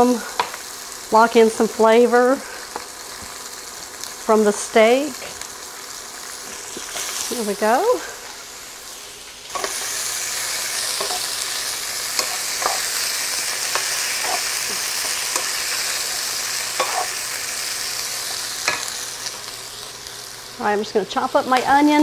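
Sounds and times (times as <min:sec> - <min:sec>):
peppers sizzling in frying pan: 0:00.0 - 0:22.0.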